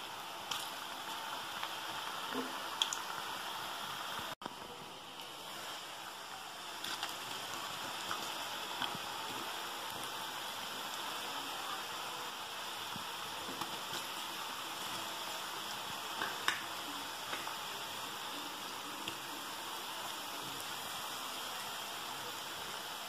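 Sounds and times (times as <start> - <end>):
peanuts sizzling in hot oil: 0.0 - 23.0
sharp crackles of frying: 0.0 - 23.0.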